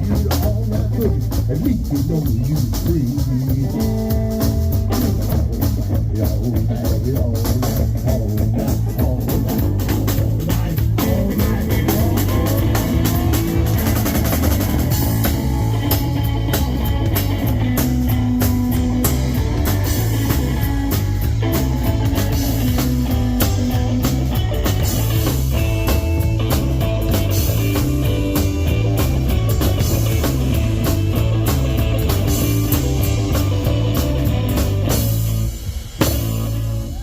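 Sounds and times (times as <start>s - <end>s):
bass guitar: 0.0s - 37.0s
drum kit groove: 0.0s - 37.0s
electric guitar: 0.0s - 37.0s.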